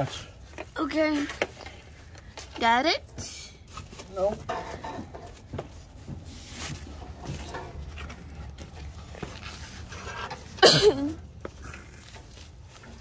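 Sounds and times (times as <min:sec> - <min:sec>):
faint clicks and rustles: 0:00.0 - 0:10.6, 0:11.2 - 0:13.0.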